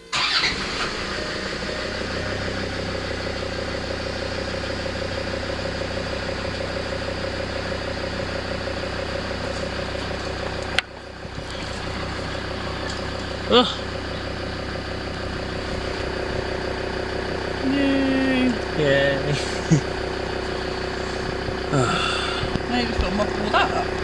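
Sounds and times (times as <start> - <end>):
diesel engine starting and idling: 0.0 - 24.0.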